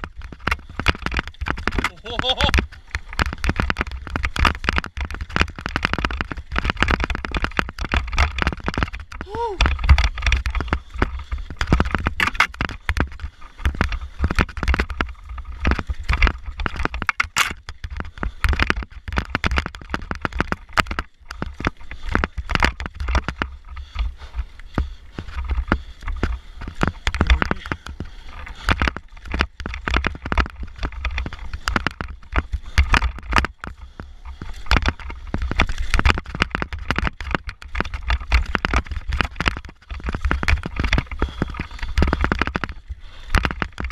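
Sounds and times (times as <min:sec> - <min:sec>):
mountain bike rattling: 0:00.0 - 0:43.9.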